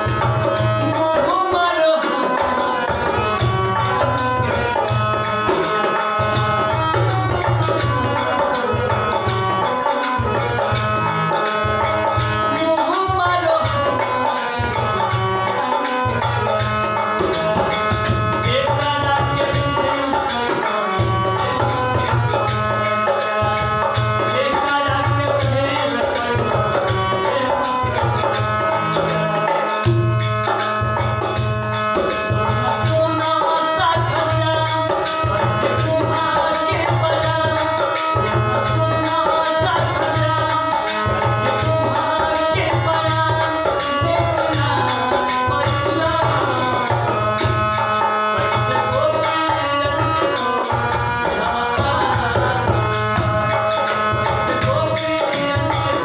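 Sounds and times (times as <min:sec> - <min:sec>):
harmonium chords and melody: 0:00.0 - 0:56.0.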